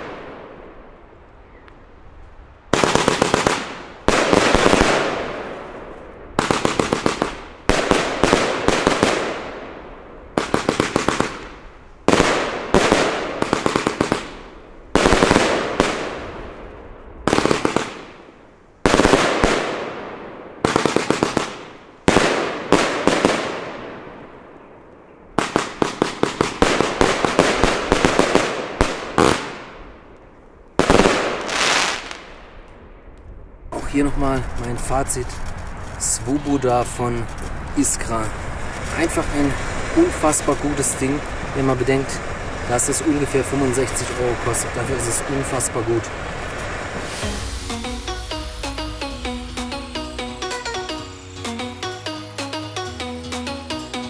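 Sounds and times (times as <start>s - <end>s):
firework volleys of sharp bangs: 0.0s - 1.0s, 2.6s - 24.6s, 25.3s - 51.6s.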